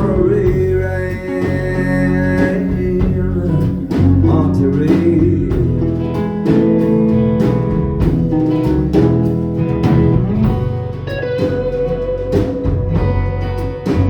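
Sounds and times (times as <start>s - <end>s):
live band playing folk-rock: 0.0s - 14.0s.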